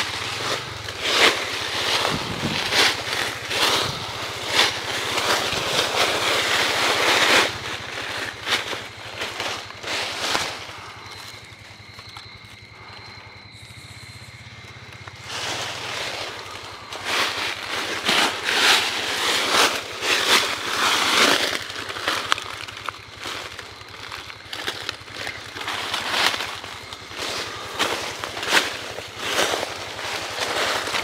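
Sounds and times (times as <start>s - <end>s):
twigs scraping: 0.0s - 13.0s, 13.6s - 31.0s
footsteps crunching dry leaves: 0.0s - 31.0s.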